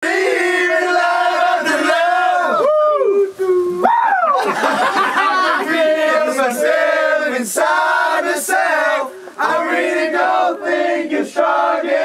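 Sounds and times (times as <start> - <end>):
men singing and chanting: 0.0 - 3.4, 4.5 - 12.0.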